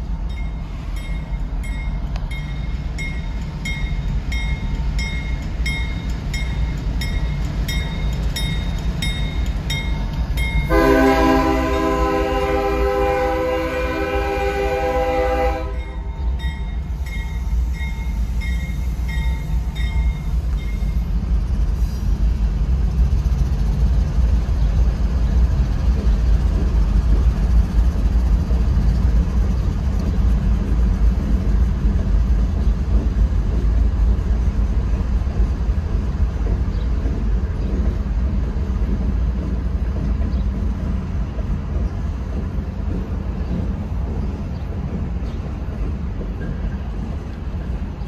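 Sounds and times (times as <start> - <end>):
diesel locomotives rumbling past: 0.0 - 48.0.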